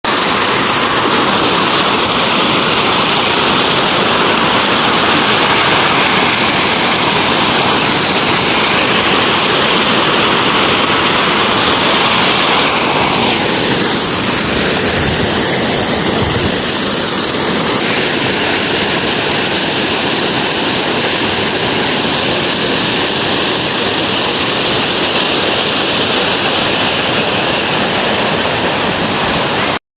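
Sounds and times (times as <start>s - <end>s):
waterfall rushing: 0.0s - 29.8s.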